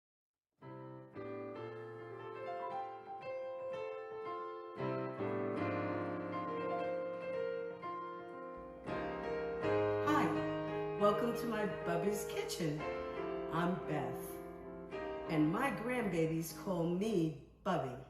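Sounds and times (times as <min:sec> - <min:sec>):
sustained keyboard chords: 0:00.6 - 0:16.5
piano melody: 0:00.6 - 0:16.7.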